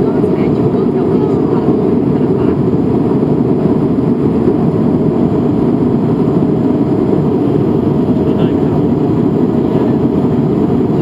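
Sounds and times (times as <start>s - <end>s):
aircraft cabin engine drone: 0.0s - 11.0s
faint steady whine: 0.0s - 11.0s.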